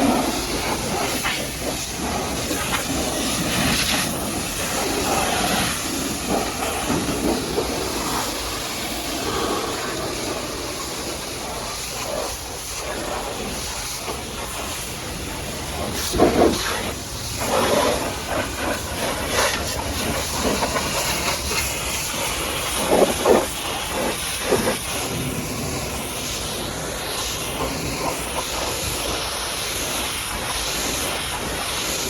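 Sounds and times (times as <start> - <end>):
pressure washer spraying: 0.0 - 32.0.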